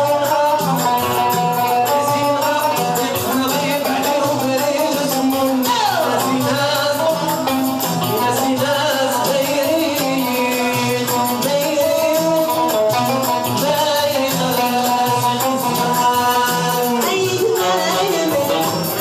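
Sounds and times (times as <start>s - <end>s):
hand percussion beat: 0.0s - 19.0s
person singing: 0.0s - 19.0s.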